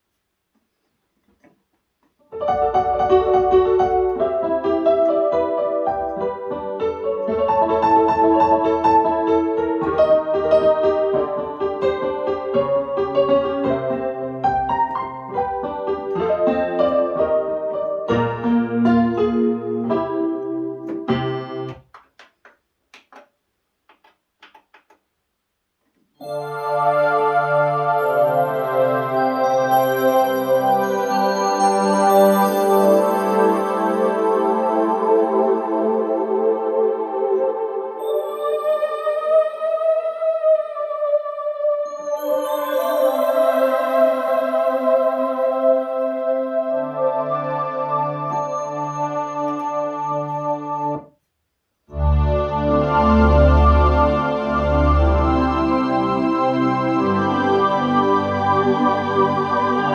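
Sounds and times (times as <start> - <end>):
synthesizer piano notes and chords: 2.2 - 22.0, 26.2 - 51.2, 51.9 - 59.9.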